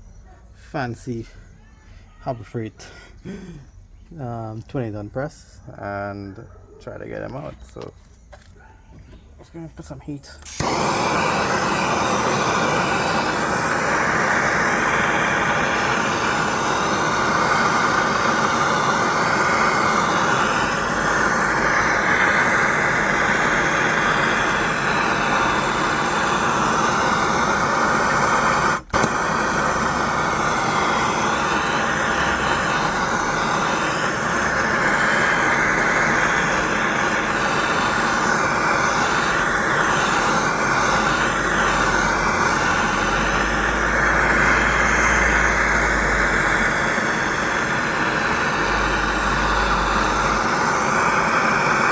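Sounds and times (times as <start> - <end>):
gas torch roaring: 9.8 - 51.9.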